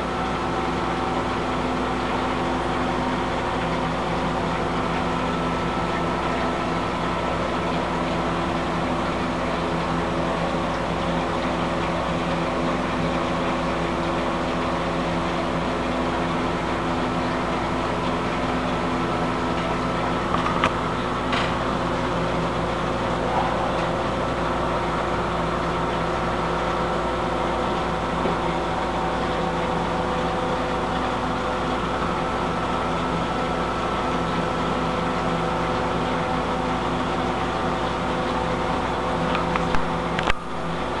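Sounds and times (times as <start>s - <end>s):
aquarium equipment humming: 0.0s - 41.0s.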